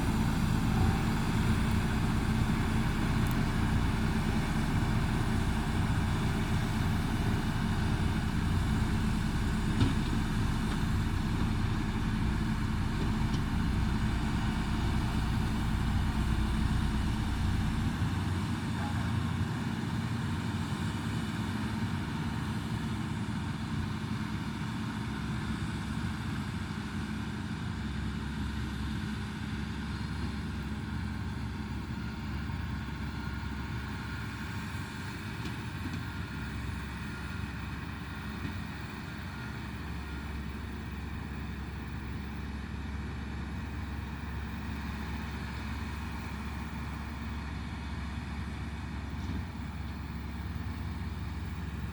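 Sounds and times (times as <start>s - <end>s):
heavy machinery diesel engine: 0.0s - 51.9s.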